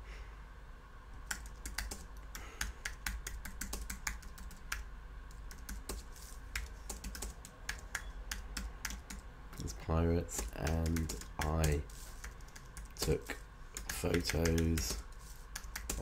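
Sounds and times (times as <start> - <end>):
typing on computer keyboard: 1.3 - 9.2, 10.3 - 16.0.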